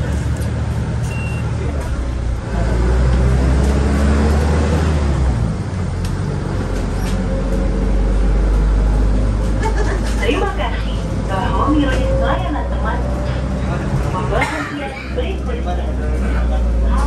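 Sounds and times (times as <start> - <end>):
bus engine accelerating: 0.0 - 17.0.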